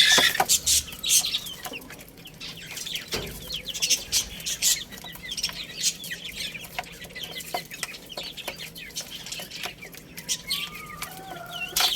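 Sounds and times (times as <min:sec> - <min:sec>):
baby chicks peeping: 0:00.0 - 0:11.9.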